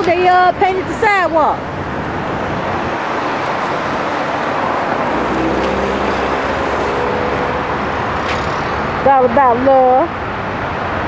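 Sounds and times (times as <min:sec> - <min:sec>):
passing cars: 0:00.0 - 0:11.0
vehicle engine hum: 0:00.0 - 0:11.0.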